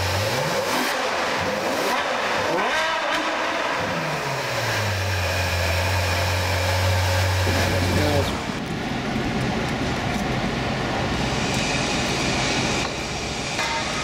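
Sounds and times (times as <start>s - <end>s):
car engine revving and idling: 0.0s - 13.6s.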